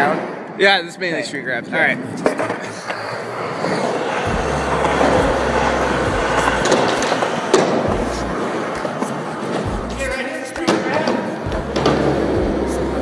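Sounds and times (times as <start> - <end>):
skateboard wheels rolling on concrete: 1.9 - 13.0.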